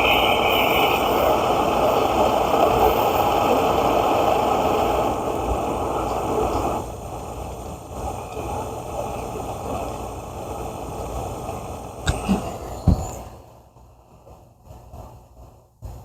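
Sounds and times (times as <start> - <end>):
stove burner hissing: 0.0 - 16.0.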